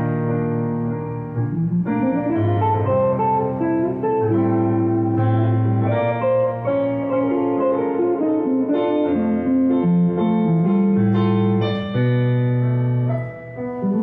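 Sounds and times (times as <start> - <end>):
electric guitar melody: 0.0 - 14.0
keyboard chords: 0.0 - 14.0.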